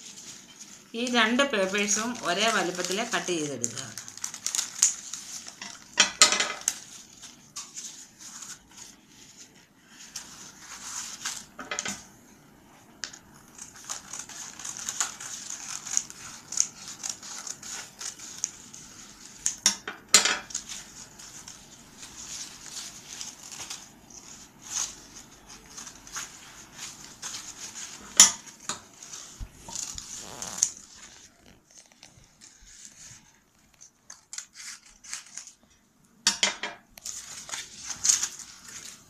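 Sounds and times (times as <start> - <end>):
paper rustling: 0.0 - 11.6, 13.2 - 19.6, 20.4 - 35.7, 37.0 - 39.0.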